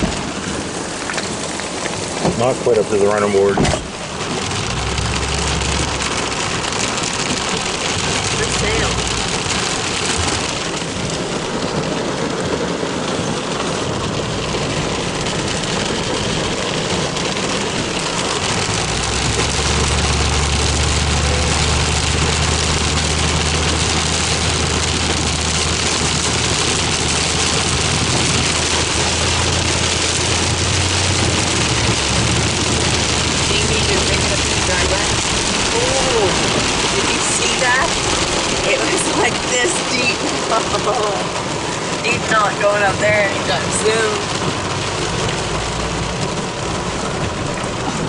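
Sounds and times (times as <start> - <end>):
vehicle engine humming: 0.0 - 48.0.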